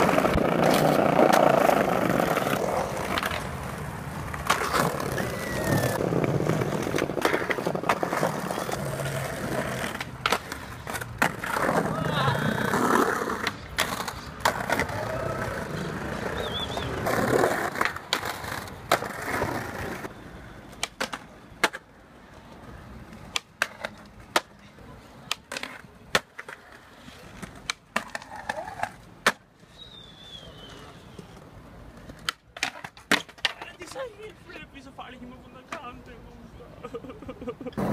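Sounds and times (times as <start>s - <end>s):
skateboard clacking on ground: 0.0s - 20.1s, 20.7s - 29.5s, 30.7s - 34.4s, 35.6s - 36.1s
skateboard wheels rolling on pavement: 0.0s - 37.9s.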